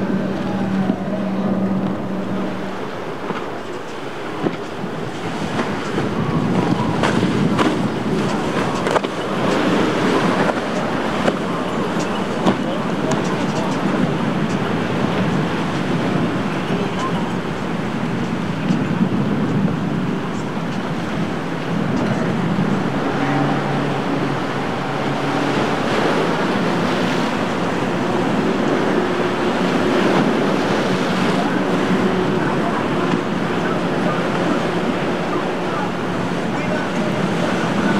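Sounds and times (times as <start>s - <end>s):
hull slapping on waves: 0.0s - 37.9s
outboard engine running hard: 0.0s - 37.9s
rushing spray and water: 0.0s - 37.9s
wind on microphone: 0.0s - 37.9s.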